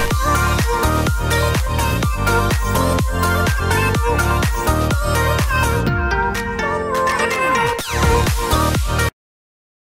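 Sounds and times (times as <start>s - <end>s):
electronic dance music: 0.0s - 9.1s.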